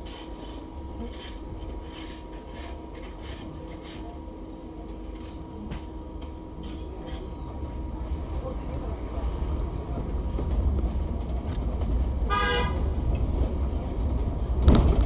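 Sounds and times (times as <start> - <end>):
steady hum: 0.0 - 13.1
bus running gear rumble: 0.0 - 15.0.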